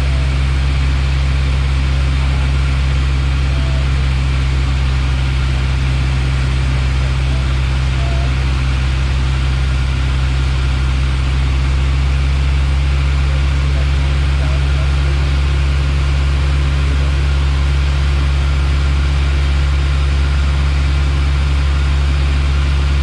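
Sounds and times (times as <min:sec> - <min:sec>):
airplane engine and propeller drone: 0:00.0 - 0:23.0.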